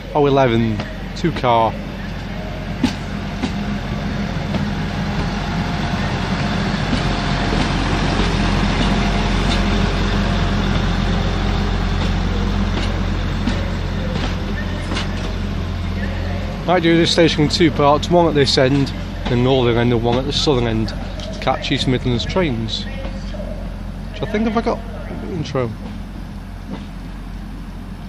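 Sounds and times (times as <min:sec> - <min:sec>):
diesel engines humming: 0:00.0 - 0:28.0
train rolling noise: 0:00.0 - 0:28.0.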